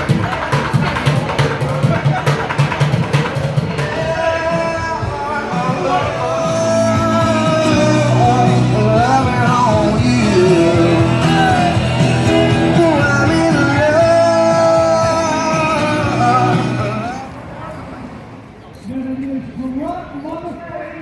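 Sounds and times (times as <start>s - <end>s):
rock and roll song with singing: 0.0s - 17.4s.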